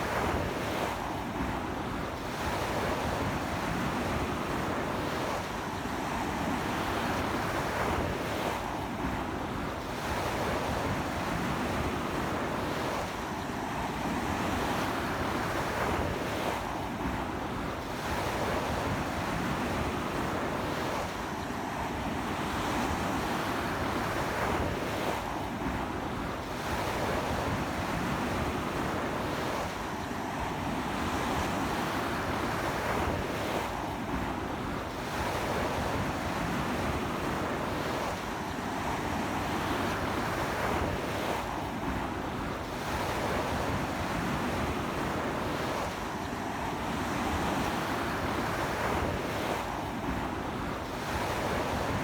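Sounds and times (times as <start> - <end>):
sea waves breaking on beach: 0.0 - 52.0.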